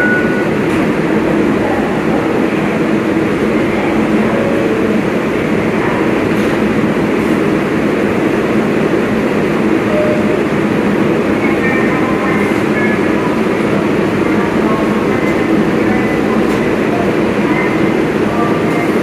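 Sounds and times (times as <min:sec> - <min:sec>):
subway train equipment humming: 0:00.0 - 0:19.0.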